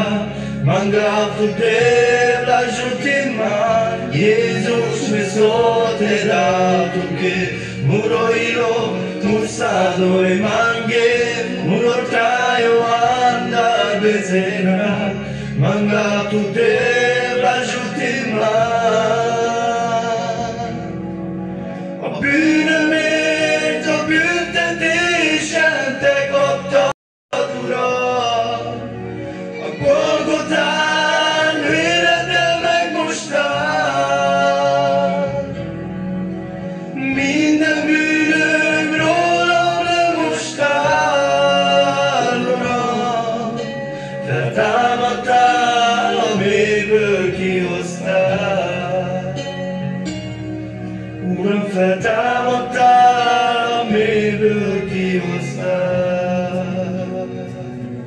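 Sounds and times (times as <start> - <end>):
men singing into a microphone: 0.0 - 20.9, 22.0 - 35.7, 36.9 - 49.6, 51.2 - 57.6.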